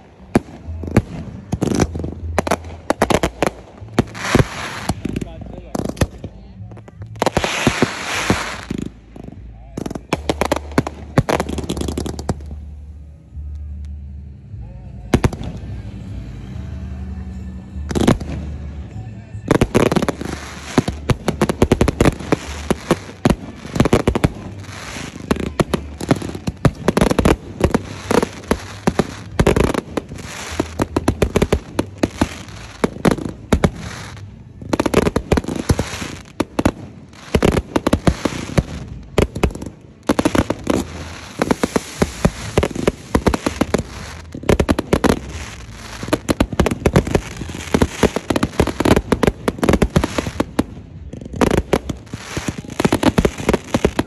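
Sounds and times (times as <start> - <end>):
fireworks bangs and crackles: 0.0 - 13.0, 15.0 - 54.0.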